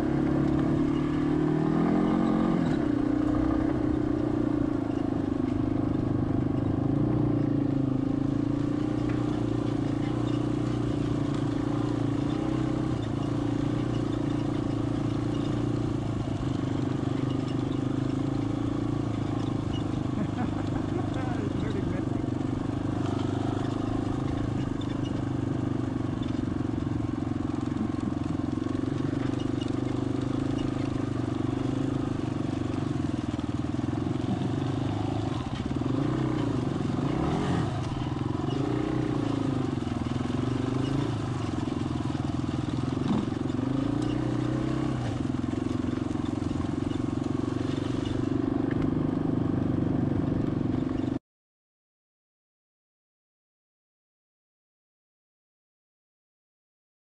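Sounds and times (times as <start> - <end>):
dirt bike engine revving: 0.0 - 48.3.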